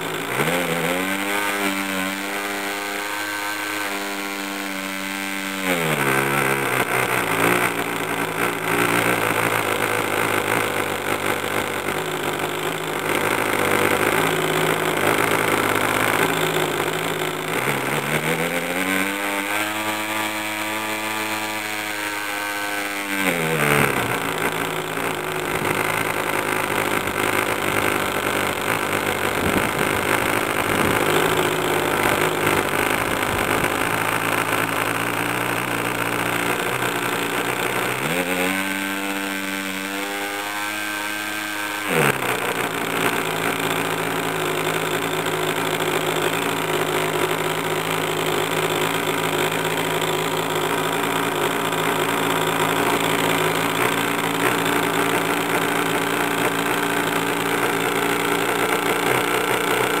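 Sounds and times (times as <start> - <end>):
model engine running: 0.0 - 60.0.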